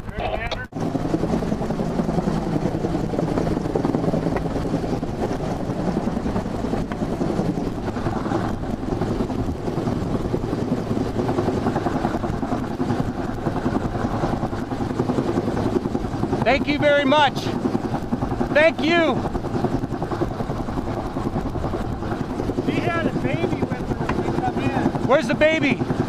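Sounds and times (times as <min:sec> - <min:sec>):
helicopter hovering: 0:00.0 - 0:26.0.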